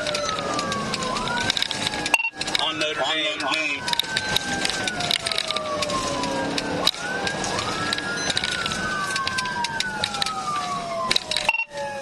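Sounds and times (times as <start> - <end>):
police siren wailing: 0.0 - 12.0
road and vehicle noise: 0.0 - 12.0.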